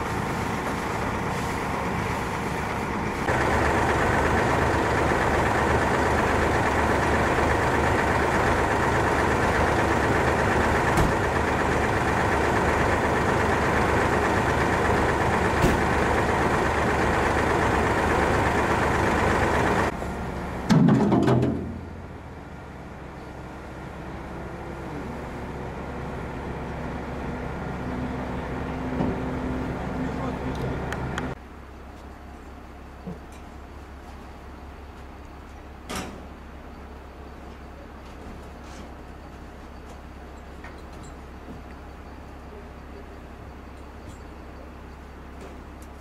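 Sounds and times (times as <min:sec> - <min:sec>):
heavy engine running: 0:00.0 - 0:46.0.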